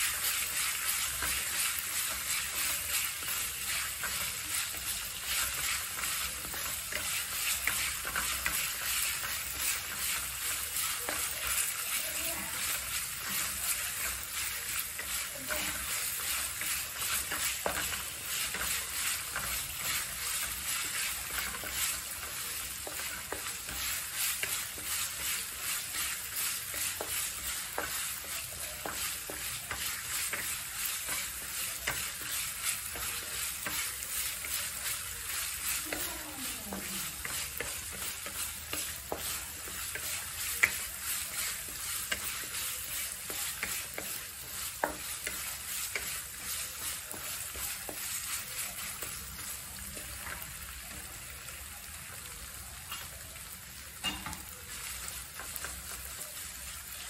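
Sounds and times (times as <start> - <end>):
spatula scraping a pan: 0.0 - 51.4, 52.8 - 57.0
paste sizzling in a wok: 0.0 - 57.0.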